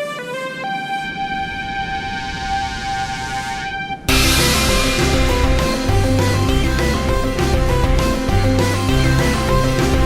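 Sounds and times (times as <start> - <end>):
background music long held note: 0.0 - 10.0.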